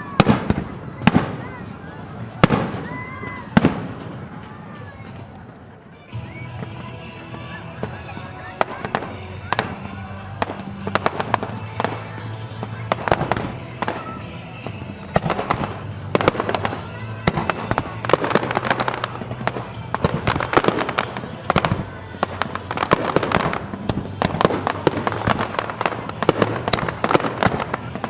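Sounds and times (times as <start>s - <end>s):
background music: 0.0s - 28.0s
fireworks bangs and crackling: 0.0s - 28.0s.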